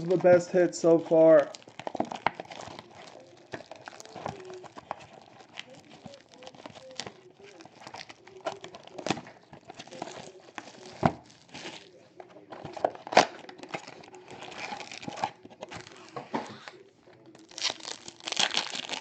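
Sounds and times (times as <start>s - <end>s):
card pack wrappers crinkling: 0.0s - 19.0s.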